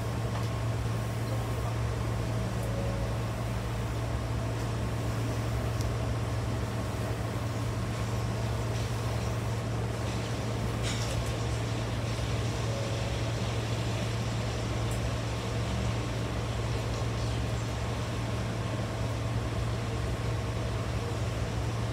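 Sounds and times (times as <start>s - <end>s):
train car hum and hiss: 0.0s - 21.9s.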